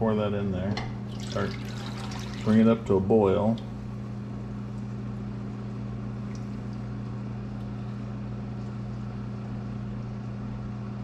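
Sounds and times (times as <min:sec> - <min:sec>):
kitchen appliance humming: 0:00.0 - 0:11.0.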